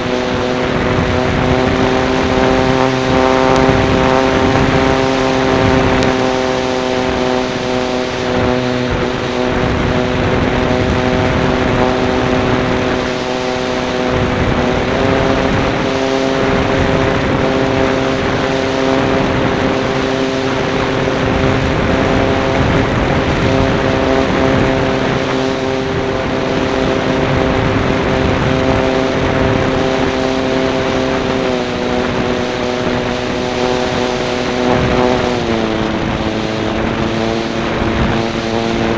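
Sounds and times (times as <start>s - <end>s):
model airplane engine running: 0.0s - 38.9s
wind rushing: 0.0s - 38.9s.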